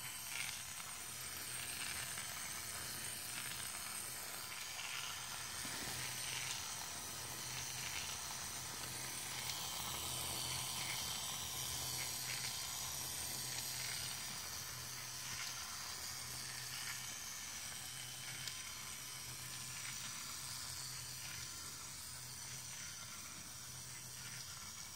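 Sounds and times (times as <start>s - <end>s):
model engine mechanical whir: 0.0s - 24.9s.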